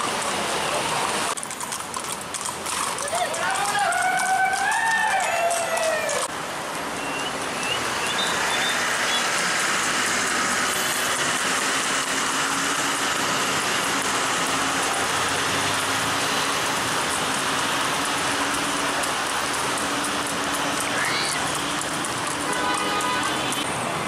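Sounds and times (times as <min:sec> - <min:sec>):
horse hooves on asphalt: 0:00.0 - 0:23.7.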